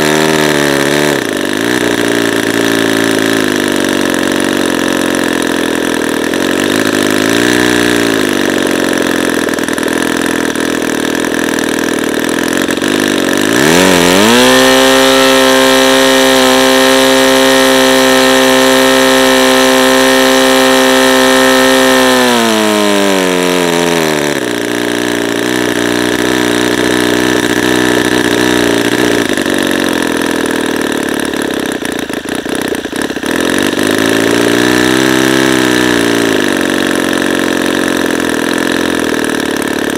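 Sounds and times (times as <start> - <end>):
model aircraft engine revving: 0.0 - 39.9.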